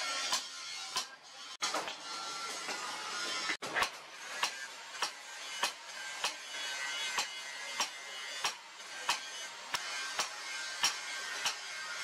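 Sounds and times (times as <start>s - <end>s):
hammer striking steel on anvil: 0.0s - 2.0s, 2.7s - 12.0s.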